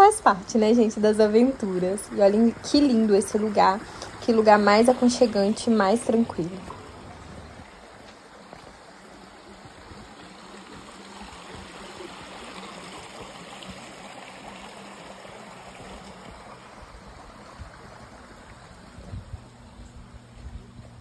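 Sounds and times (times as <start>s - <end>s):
creek water rushing and trickling: 0.0s - 21.0s.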